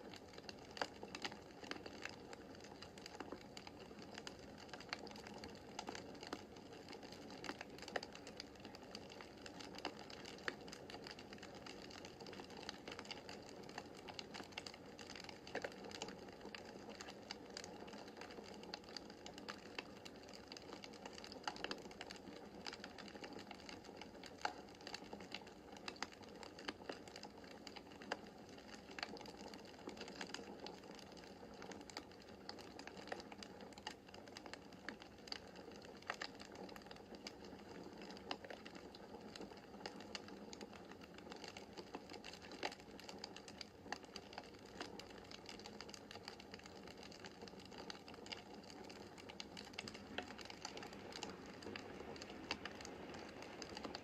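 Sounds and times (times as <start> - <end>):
soft hiss of burning logs: 0.0 - 54.0
wood fire crackling: 0.0 - 54.0.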